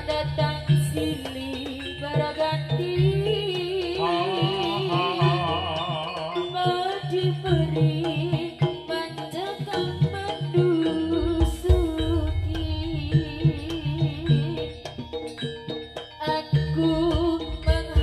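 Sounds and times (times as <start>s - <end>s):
wavering lead melody: 0.0s - 18.0s
drumming: 2.9s - 18.0s.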